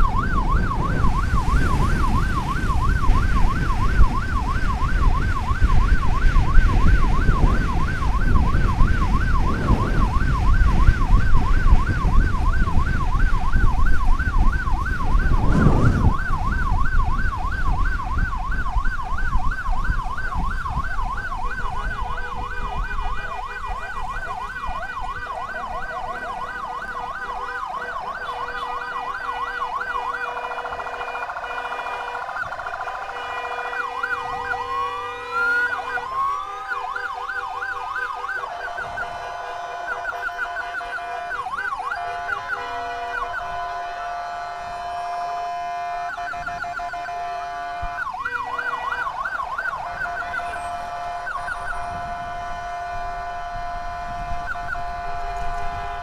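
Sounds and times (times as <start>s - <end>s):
electronic siren yelp: 0.0s - 56.0s
heavy wind: 0.0s - 56.0s
road rumble: 0.0s - 56.0s.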